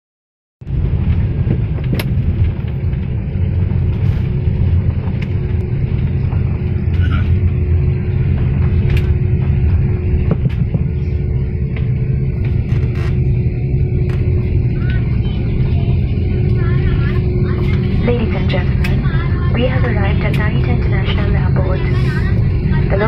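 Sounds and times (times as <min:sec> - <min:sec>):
airliner cabin low rumble: 0:00.6 - 0:23.0
faint steady hum: 0:02.4 - 0:23.0.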